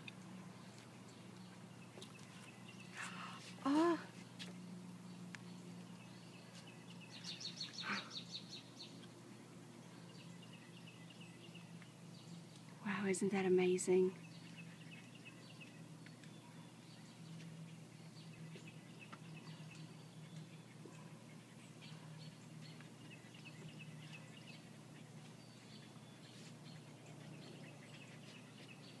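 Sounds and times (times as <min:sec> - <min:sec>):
faint birds chirping: 0:00.0 - 0:29.0
low steady hum: 0:00.0 - 0:29.0.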